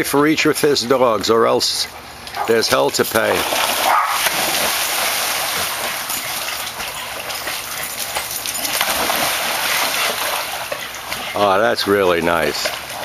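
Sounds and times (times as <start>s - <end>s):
water sloshing as dog swims: 1.6s - 13.0s
dog splashing into pool: 2.3s - 13.0s.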